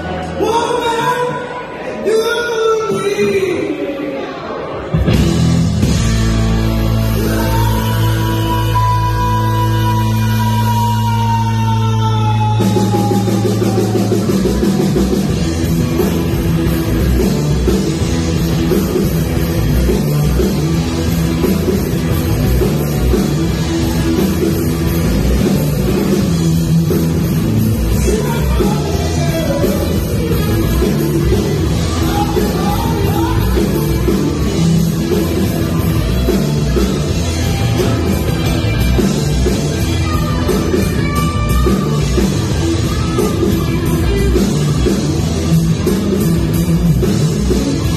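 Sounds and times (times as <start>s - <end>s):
live rock band: 0.0s - 47.9s.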